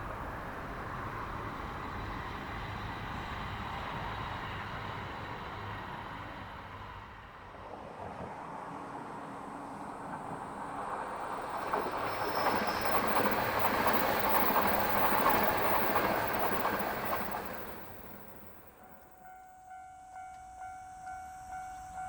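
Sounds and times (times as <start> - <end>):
train wheels rushing on rails: 0.0 - 19.2.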